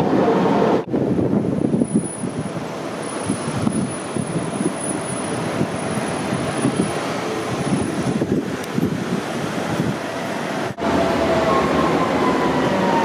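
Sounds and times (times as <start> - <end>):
tram drive whine: 0.0 - 13.0
tram wheels rumbling on rails: 0.0 - 13.0.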